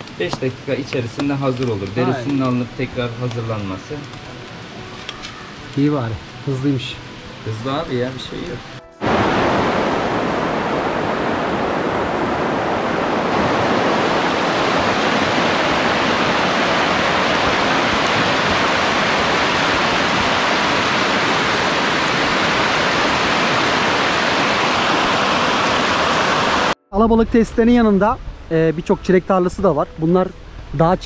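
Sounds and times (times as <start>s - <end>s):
river rushing over stones: 0.0s - 26.8s.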